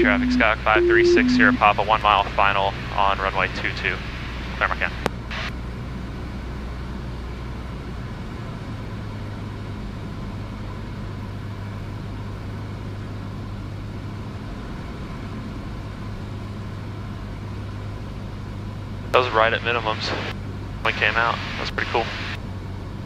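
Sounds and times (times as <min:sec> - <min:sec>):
airplane engine and propeller droning: 0:00.0 - 0:23.0.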